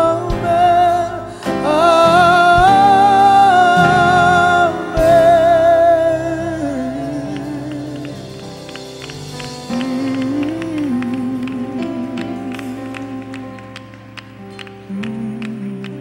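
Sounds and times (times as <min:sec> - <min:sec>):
gospel singing with vibrato: 0:00.0 - 0:16.0
instrumental accompaniment: 0:00.0 - 0:16.0.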